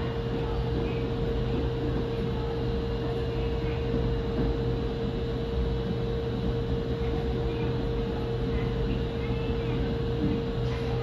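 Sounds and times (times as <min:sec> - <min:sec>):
metro platform hum: 0:00.0 - 0:11.0.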